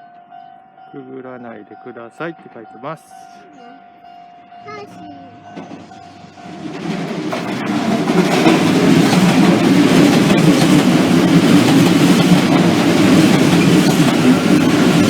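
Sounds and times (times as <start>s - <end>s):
electric train passing: 0.0s - 15.0s
loud rail noise: 0.0s - 15.0s.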